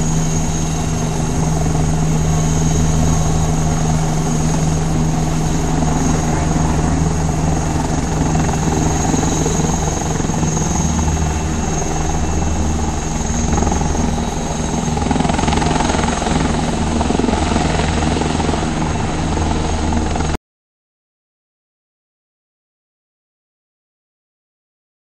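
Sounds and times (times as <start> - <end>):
helicopter rotor beat: 0.0 - 20.4
high turbine whine: 0.0 - 20.4.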